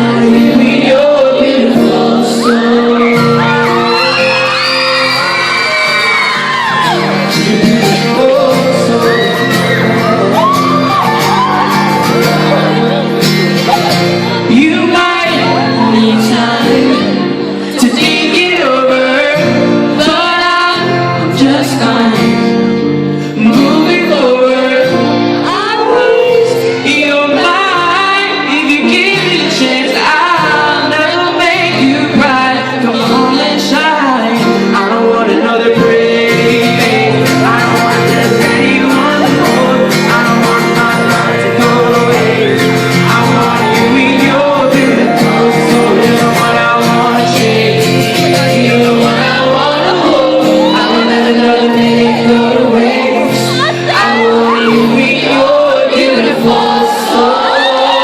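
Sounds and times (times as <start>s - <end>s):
guitar accompaniment: 0.0s - 58.0s
person singing pop song: 0.0s - 58.0s.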